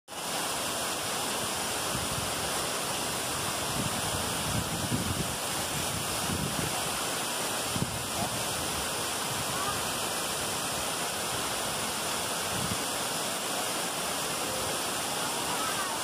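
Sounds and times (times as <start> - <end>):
waterfall rushing: 0.1 - 16.0.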